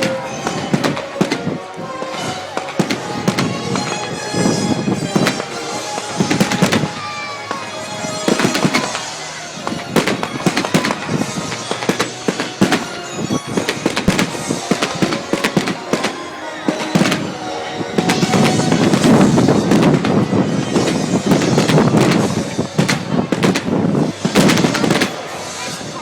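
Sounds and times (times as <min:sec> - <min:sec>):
fireworks bangs and crackling: 0:00.0 - 0:26.0
music: 0:00.0 - 0:26.0.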